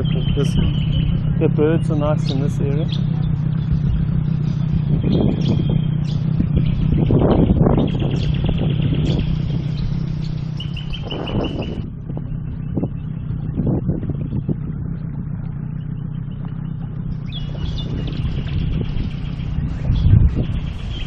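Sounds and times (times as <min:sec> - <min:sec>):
birds chirping: 0:00.0 - 0:21.0
low motor drone: 0:00.0 - 0:21.0.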